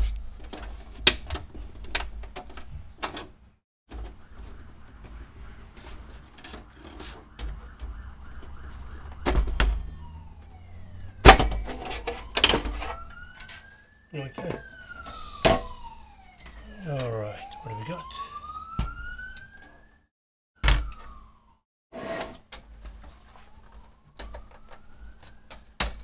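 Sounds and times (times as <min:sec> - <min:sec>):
distant siren wailing: 0:03.9 - 0:21.6, 0:22.6 - 0:26.0.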